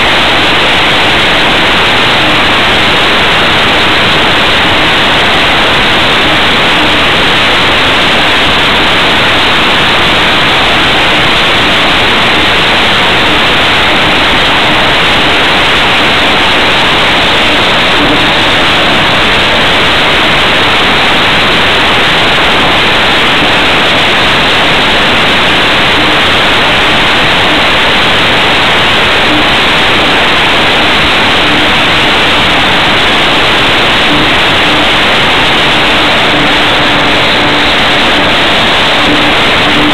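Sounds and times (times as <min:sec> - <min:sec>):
rush of air: 0:00.0 - 0:39.9.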